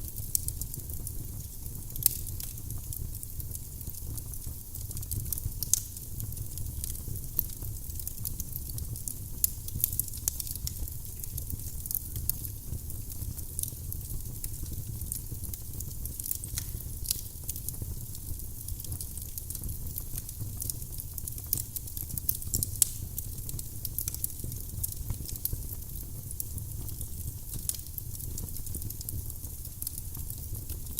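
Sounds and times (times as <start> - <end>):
firewood crackling and popping: 0.0 - 30.9.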